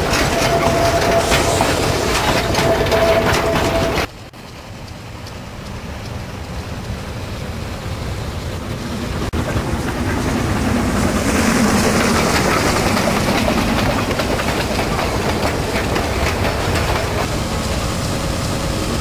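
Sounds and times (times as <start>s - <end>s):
steam train rumbling: 0.0s - 19.0s.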